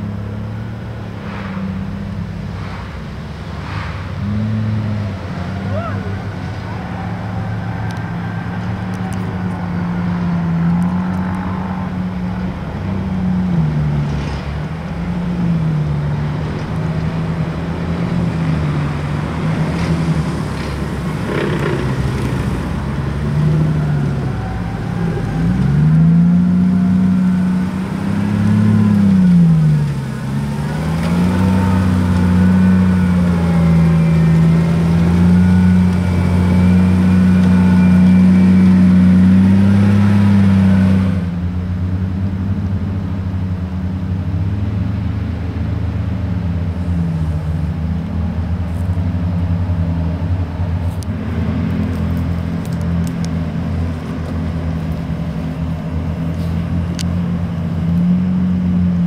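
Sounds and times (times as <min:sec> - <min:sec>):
tracked vehicle engine revving: 0:00.0 - 0:59.0.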